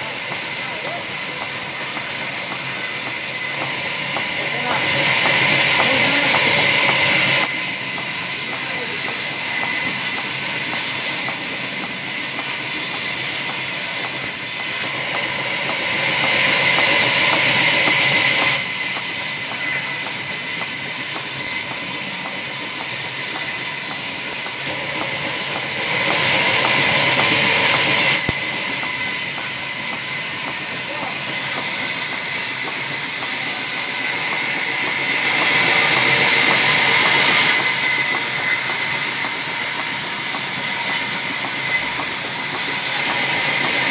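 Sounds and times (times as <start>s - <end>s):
band saw running: 0.0s - 43.9s
saw blade cutting wood: 0.0s - 43.9s.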